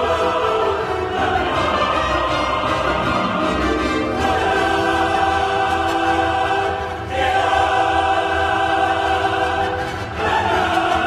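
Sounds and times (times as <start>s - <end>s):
choir singing held chords: 0.0s - 11.0s.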